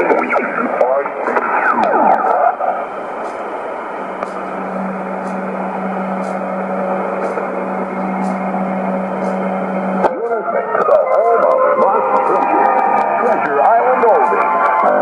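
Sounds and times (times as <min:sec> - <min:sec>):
low hum tone: 0:00.0 - 0:15.0
radio static hiss: 0:00.0 - 0:15.0.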